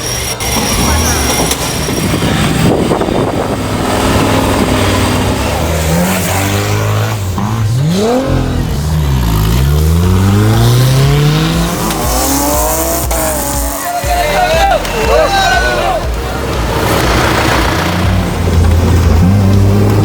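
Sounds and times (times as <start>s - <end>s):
engine revving hard: 0.0s - 14.0s, 16.6s - 20.0s.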